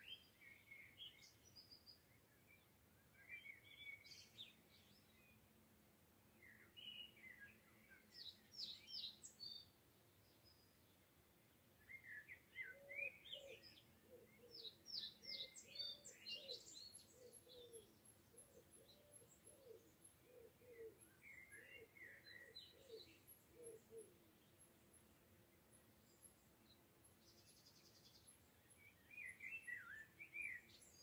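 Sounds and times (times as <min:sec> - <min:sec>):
small birds singing: 0:00.0 - 0:31.0.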